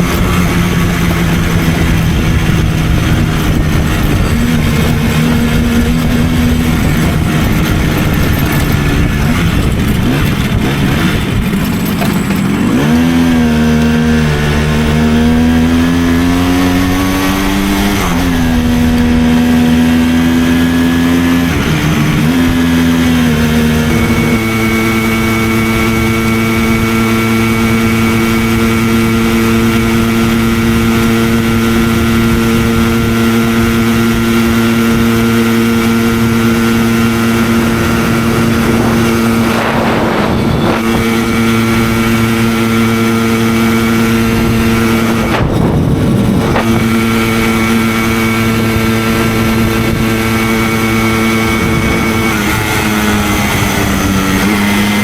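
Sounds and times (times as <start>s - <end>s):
two-stroke moped engine revving: 0.0s - 55.0s.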